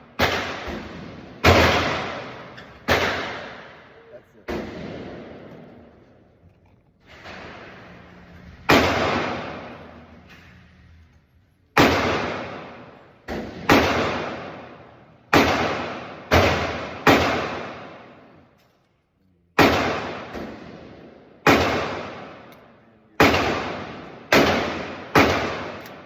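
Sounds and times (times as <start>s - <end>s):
gunshots with long echo: 0.0s - 6.0s, 7.1s - 10.3s, 11.8s - 18.6s, 19.6s - 26.0s.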